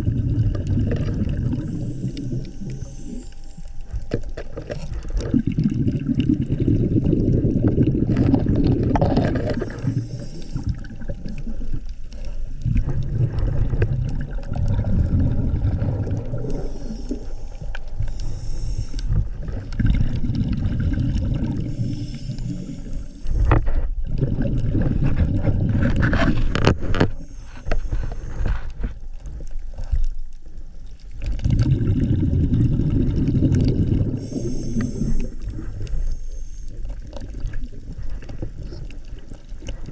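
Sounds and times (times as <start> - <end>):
diver exhaling bubbles underwater: 0.0 - 3.4, 4.0 - 28.9, 31.2 - 39.9.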